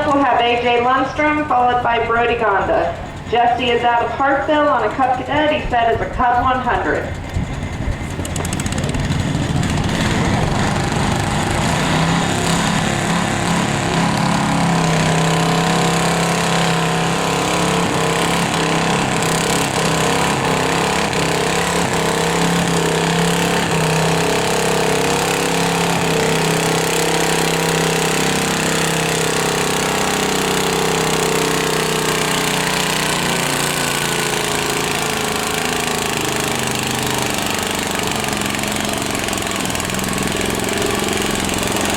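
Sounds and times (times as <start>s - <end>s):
tractor engine running at high revs: 0.0s - 41.9s.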